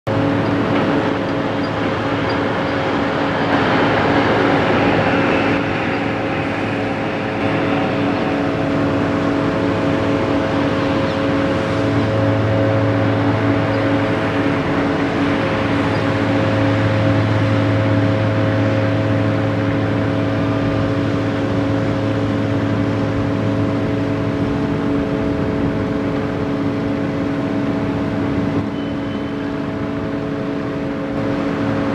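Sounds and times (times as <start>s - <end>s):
heavy diesel engine humming: 0.0s - 31.9s
broad rushing noise: 0.1s - 31.9s.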